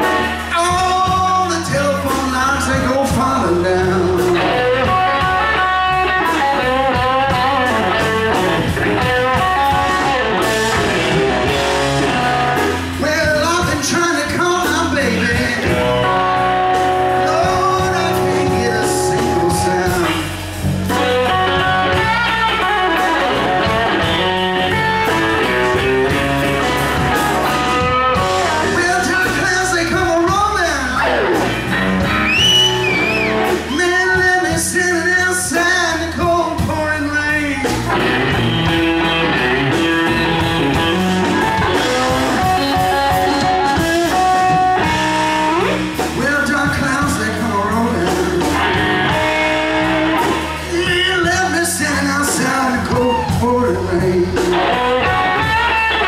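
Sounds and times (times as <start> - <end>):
bass guitar: 0.0 - 56.0
drums: 0.0 - 56.0
electric guitar lead with bent notes: 0.0 - 56.0.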